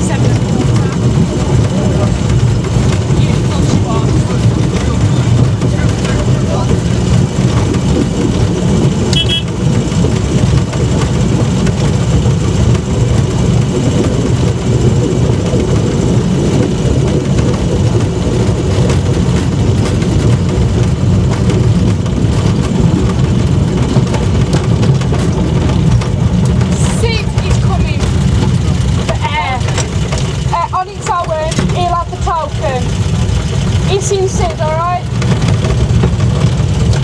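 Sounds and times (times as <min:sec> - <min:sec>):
engine running with low rumble: 0:00.0 - 0:37.0.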